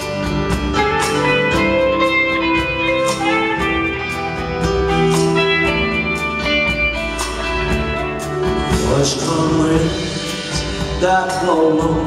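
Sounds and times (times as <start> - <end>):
electric guitar melody: 0.0 - 12.0
live band playing: 0.0 - 12.0.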